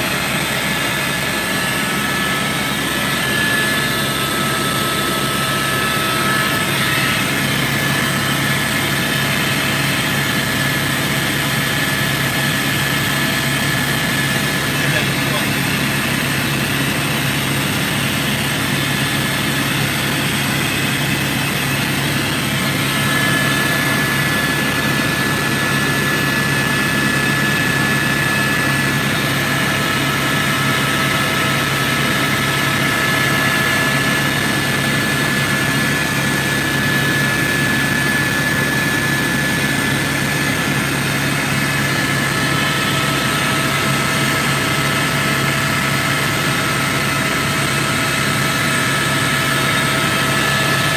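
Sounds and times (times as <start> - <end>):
helicopter drone inside cabin: 0.0 - 50.9.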